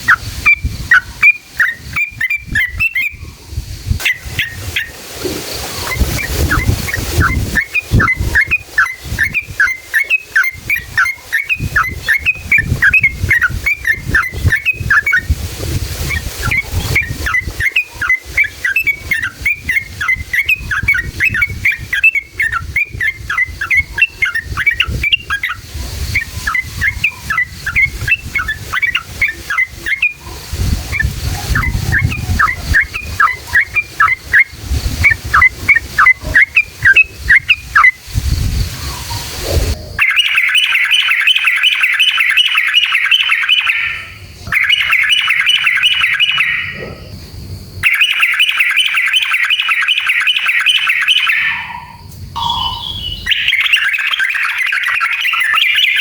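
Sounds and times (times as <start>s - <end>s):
bulbul singing chirping notes: 0.0s - 3.4s, 5.8s - 15.4s, 16.0s - 38.0s, 38.9s - 47.2s, 47.8s - 56.0s.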